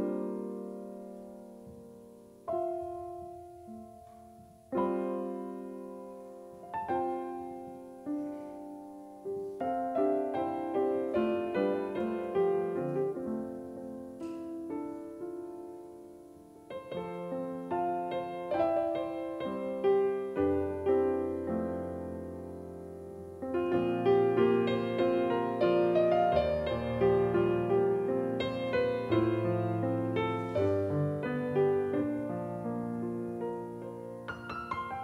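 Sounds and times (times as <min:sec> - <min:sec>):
grand piano playing: 0:00.0 - 0:35.0.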